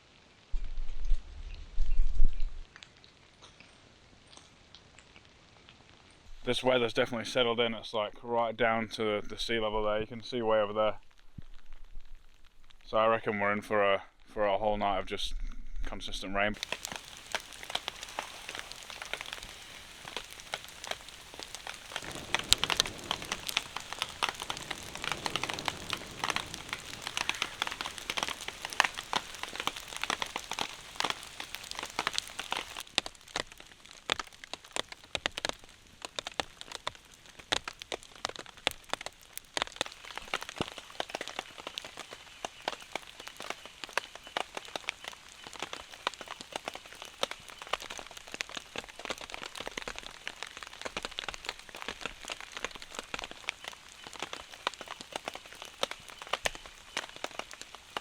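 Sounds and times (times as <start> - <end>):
raindrops ticking close by: 0.0 - 13.0, 16.5 - 58.0
steady rain: 0.0 - 13.0, 16.5 - 58.0.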